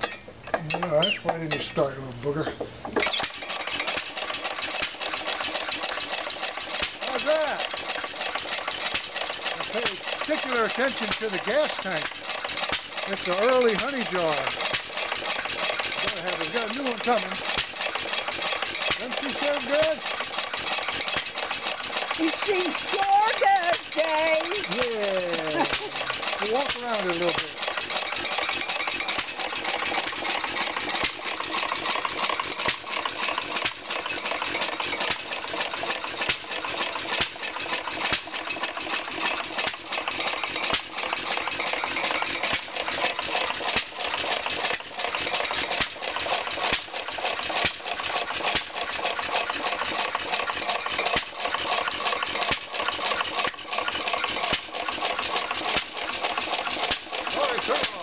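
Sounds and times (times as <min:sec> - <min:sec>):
hit-and-miss engine clattering: 0:00.0 - 0:58.0.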